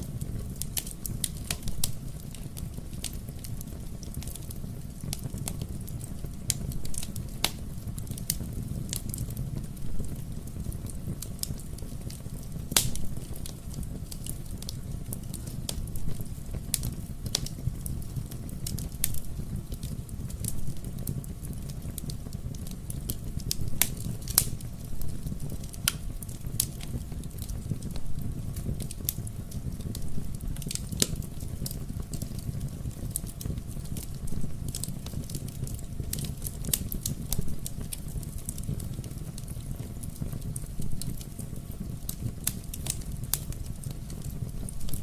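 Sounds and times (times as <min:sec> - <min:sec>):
fire crackling and popping: 0:00.0 - 0:45.0
low rumble of flames: 0:00.0 - 0:45.0.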